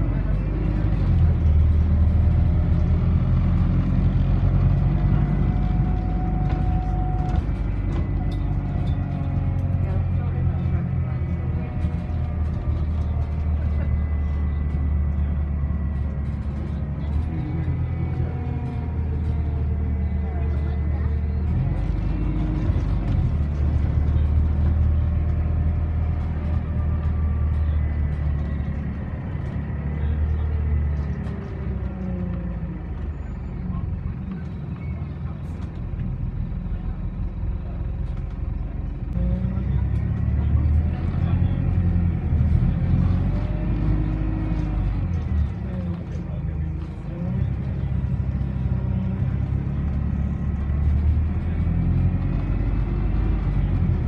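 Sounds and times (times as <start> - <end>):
bus engine rumble: 0.0 - 54.0
road noise: 0.0 - 54.0.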